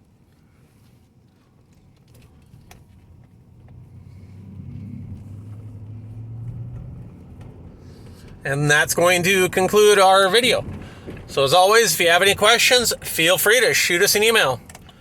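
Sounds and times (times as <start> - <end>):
car engine hum in cabin: 0.0 - 15.0.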